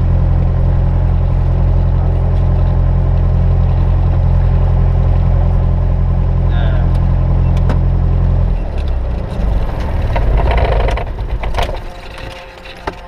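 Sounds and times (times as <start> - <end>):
aircraft engine idling and winding down: 0.0 - 13.0.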